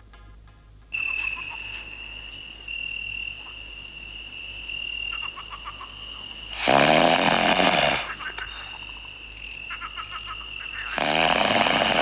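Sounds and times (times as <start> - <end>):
crickets trilling: 0.9 - 12.0
frogs croaking: 0.9 - 12.0.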